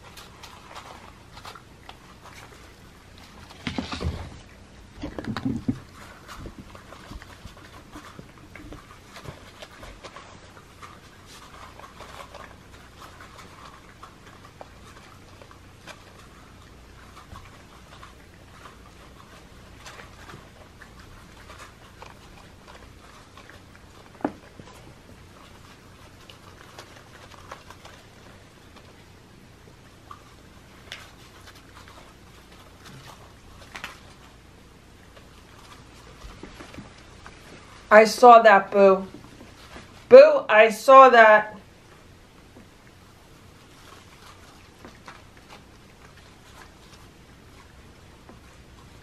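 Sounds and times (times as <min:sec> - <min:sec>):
cats crunching dry kibble: 0:00.0 - 0:40.2, 0:41.5 - 0:49.0.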